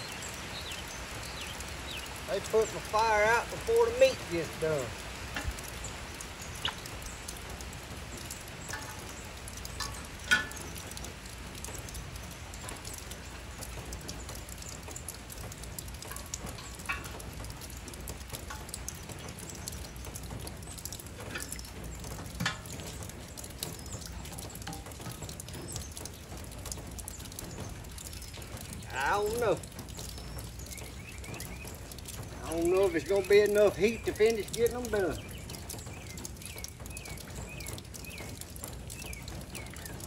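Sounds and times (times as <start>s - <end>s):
light rain pattering: 0.0s - 40.0s.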